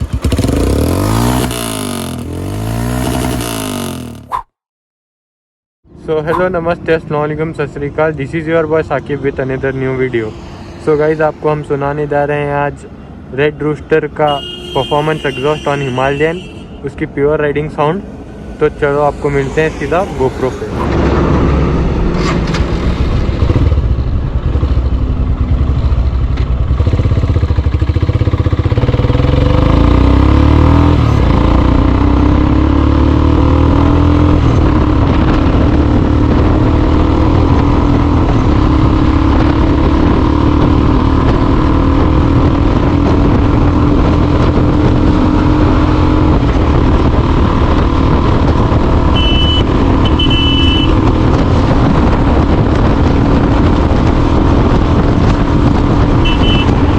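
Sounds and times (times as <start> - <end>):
motorcycle engine revving and cruising: 0.0 - 4.6, 5.8 - 56.9.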